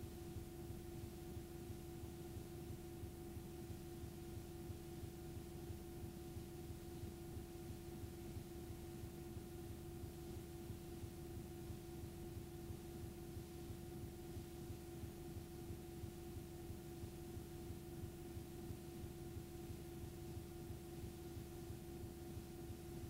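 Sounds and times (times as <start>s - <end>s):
faint tape hum and hiss: 0.0s - 23.0s.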